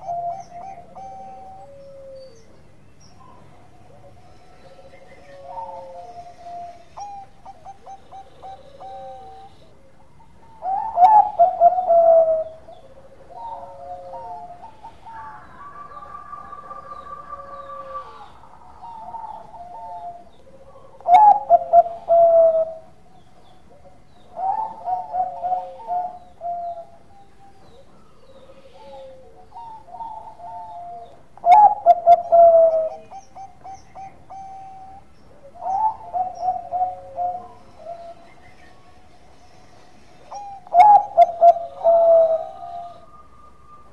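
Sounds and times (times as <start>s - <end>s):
dove cooing: 0.0s - 2.6s, 3.2s - 38.6s, 40.2s - 43.9s.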